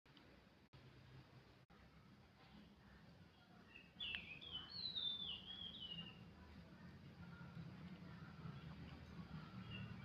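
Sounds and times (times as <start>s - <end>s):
faint low hum: 0.1s - 10.0s.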